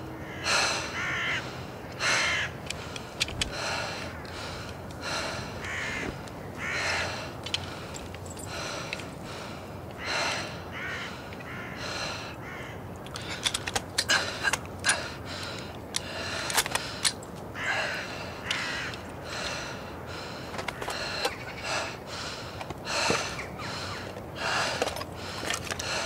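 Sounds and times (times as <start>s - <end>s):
crows cawing: 0.0s - 26.0s.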